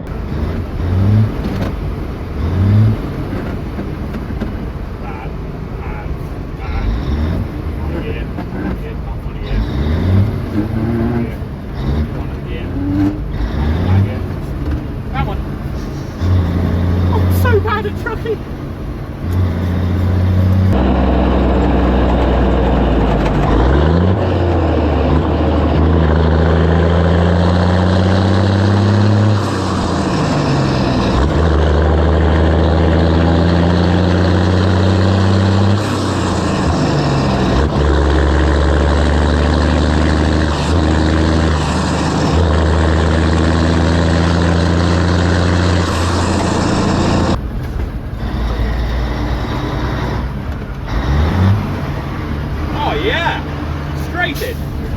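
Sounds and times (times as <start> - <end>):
diesel lorry engine accelerating: 0.0 - 54.9.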